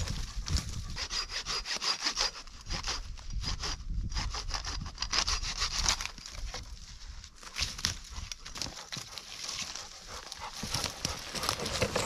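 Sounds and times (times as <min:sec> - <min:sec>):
hand saw cutting wood: 0:00.0 - 0:06.7, 0:08.6 - 0:12.0.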